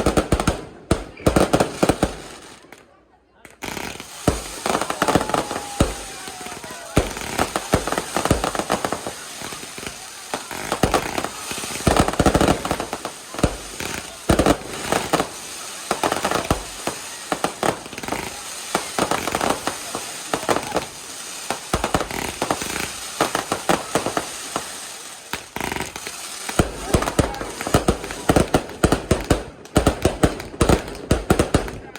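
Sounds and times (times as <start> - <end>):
fireworks crackling and banging: 0.0 - 31.9.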